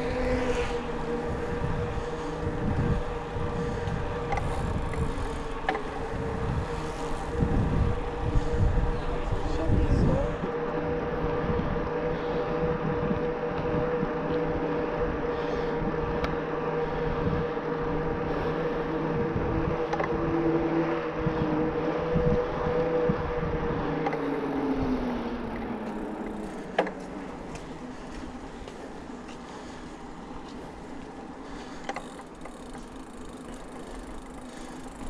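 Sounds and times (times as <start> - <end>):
electric bike motor whining: 0.0 - 35.0
wind and riding noise: 0.0 - 35.0.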